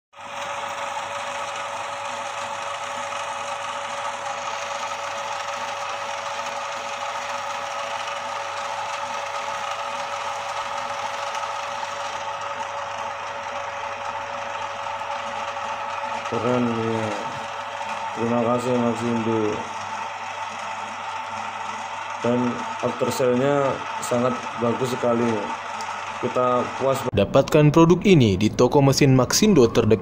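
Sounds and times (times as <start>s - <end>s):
noodle machine motor running: 0.2s - 27.2s.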